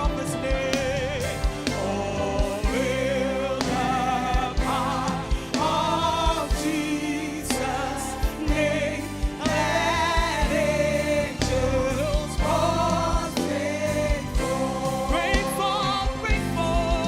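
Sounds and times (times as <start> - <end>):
band with drum hits: 0.0 - 17.0.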